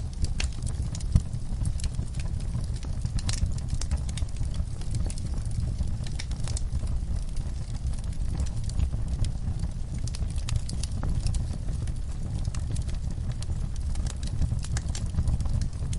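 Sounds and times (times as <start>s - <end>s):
steady low rumble: 0.0s - 15.9s
wood fire crackling and popping: 0.0s - 15.9s.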